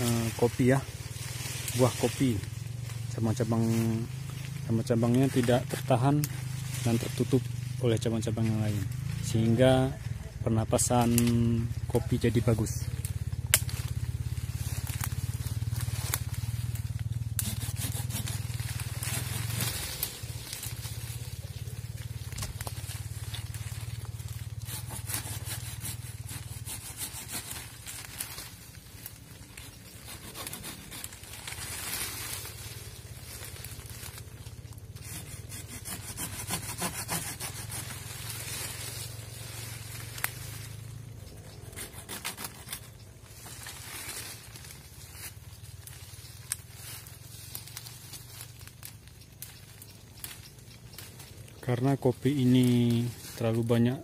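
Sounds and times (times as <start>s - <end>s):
branches snapping: 0.0s - 9.8s, 10.8s - 54.0s
dry branches rustling and crackling: 0.0s - 54.0s
low fast-pulsing rumble: 0.0s - 54.0s.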